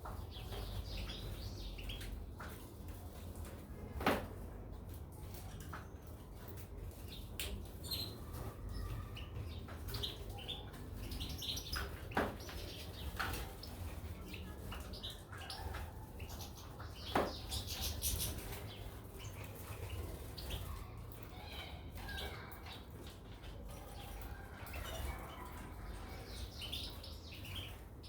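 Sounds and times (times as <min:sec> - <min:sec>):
birds chirping: 0:00.0 - 0:03.6, 0:05.3 - 0:28.0.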